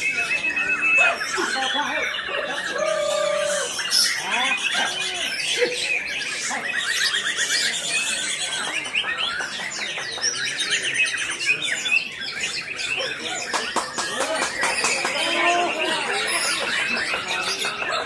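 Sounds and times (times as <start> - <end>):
birds singing whistles and trills: 0.0 - 18.0.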